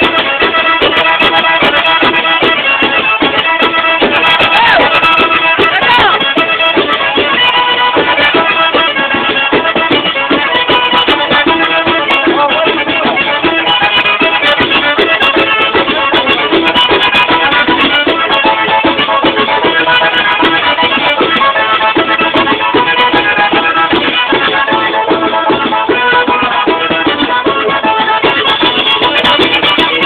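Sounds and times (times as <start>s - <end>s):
button accordion melody: 0.0s - 30.0s
frame drum with jingles: 0.0s - 30.0s.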